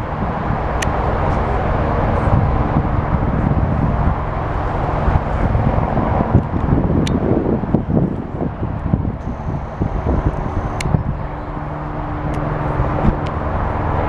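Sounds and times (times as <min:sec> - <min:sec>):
helicopter turbine and rotor drone: 0:00.0 - 0:14.0.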